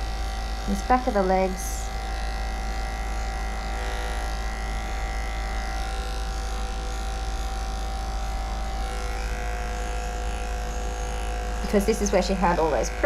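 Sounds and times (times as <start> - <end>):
electric clippers humming: 0.0 - 13.0.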